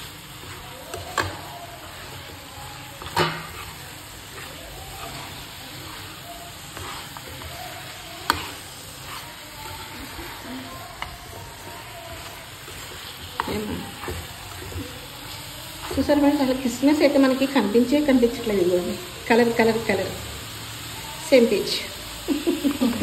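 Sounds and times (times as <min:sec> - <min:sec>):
halwa sizzling in a pan: 0:00.0 - 0:23.0.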